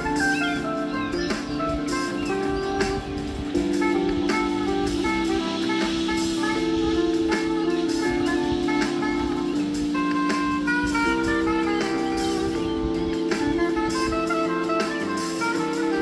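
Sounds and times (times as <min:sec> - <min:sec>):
jazz music with drum kit: 0:00.0 - 0:16.0.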